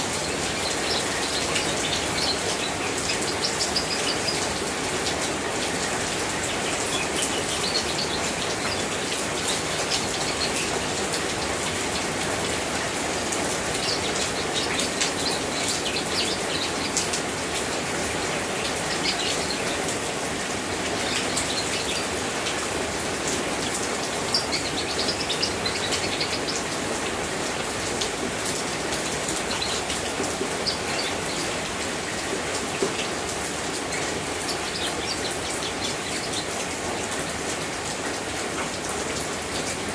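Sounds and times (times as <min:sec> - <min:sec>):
small birds chirping: 0:00.0 - 0:37.3
rain pattering: 0:00.0 - 0:39.9.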